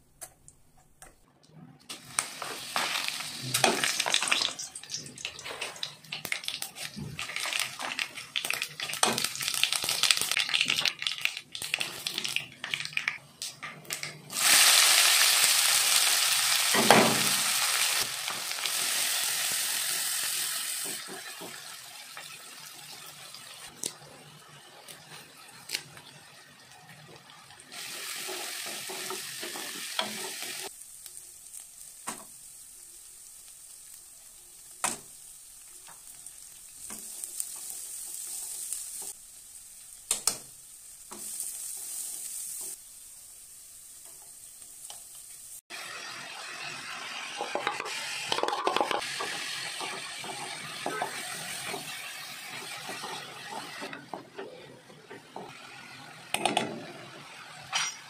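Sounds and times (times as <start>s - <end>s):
onions sizzling in oil: 1.9s - 58.0s
spices crackling in hot oil: 1.9s - 58.0s.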